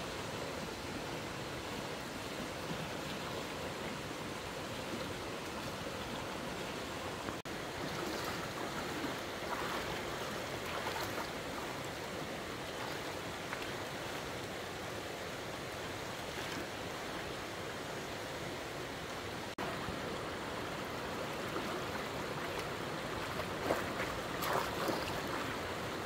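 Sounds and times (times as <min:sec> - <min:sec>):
fast-flowing stream rushing: 0:00.0 - 0:26.0.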